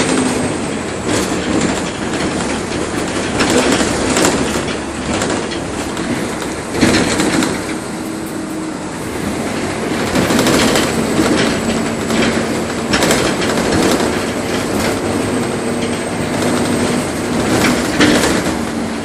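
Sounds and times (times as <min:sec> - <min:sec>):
train wheels knocking over joints: 0:00.0 - 0:19.0.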